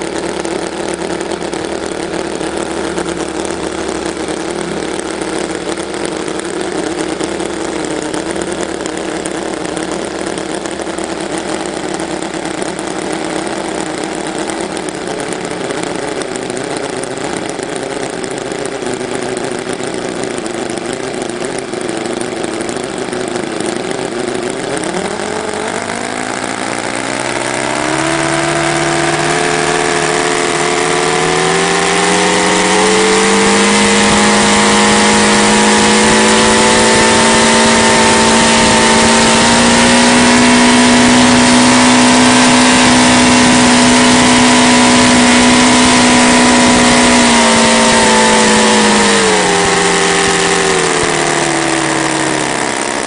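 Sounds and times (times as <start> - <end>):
model radial engine running: 0.0 - 53.0.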